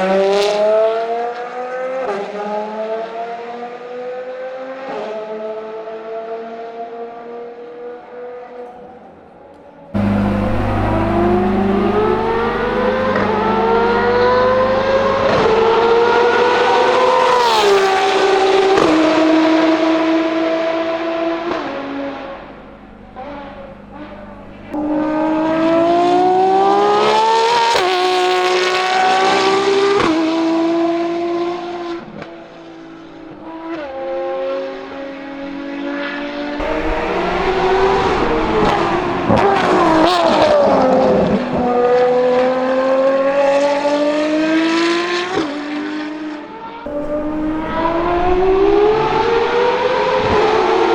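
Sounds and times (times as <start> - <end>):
racing car engine accelerating: 10.0 - 50.9.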